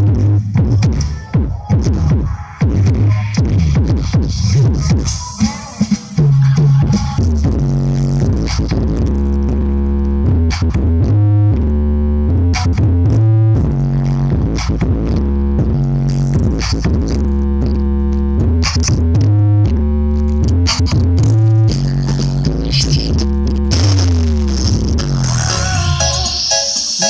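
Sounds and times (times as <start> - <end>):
electronic dance music with deep bass: 0.0 - 27.0.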